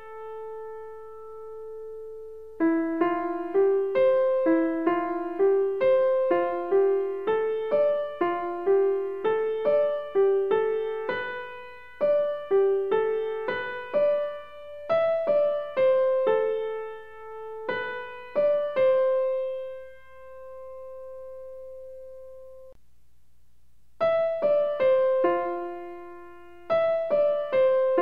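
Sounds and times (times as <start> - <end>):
slow piano melody: 0.0 - 22.8, 24.0 - 28.0.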